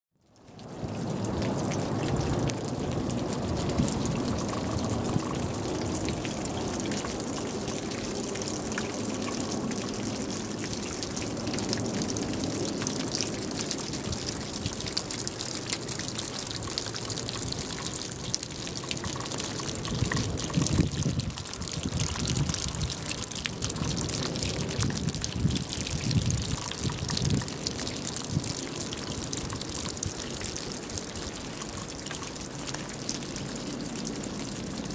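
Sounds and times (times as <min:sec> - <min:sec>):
water dripping from eaves: 0:00.2 - 0:34.9.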